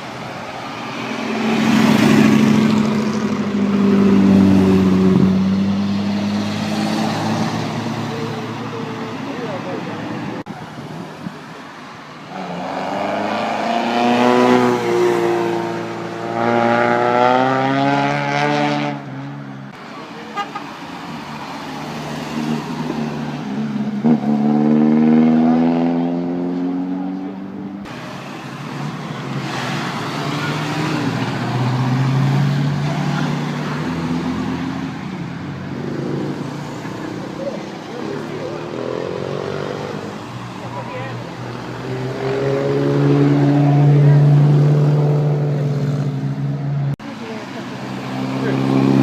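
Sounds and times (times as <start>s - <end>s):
car engines passing: 0.0s - 49.0s.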